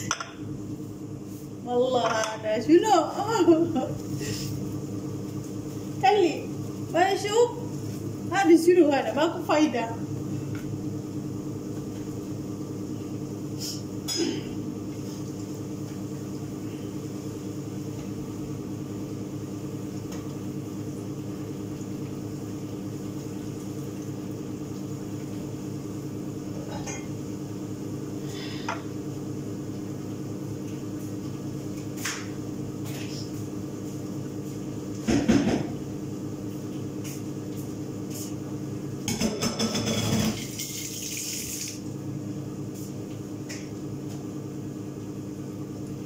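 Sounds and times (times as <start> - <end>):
extractor fan humming: 0.0 - 46.0.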